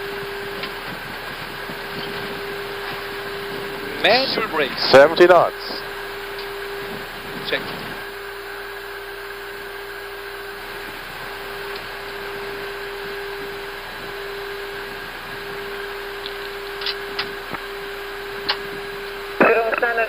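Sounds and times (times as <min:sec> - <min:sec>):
cockpit hum and hiss: 0:00.0 - 0:20.0.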